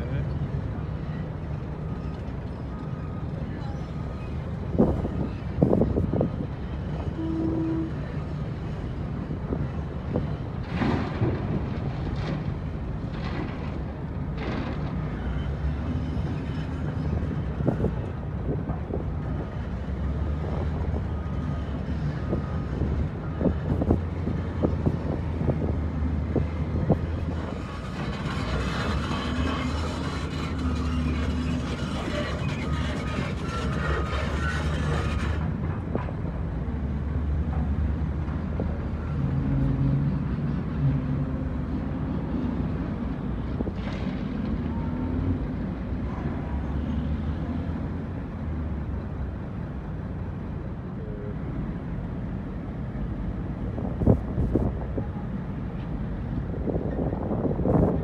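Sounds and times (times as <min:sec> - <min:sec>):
diesel engine drone: 0:00.0 - 0:58.0.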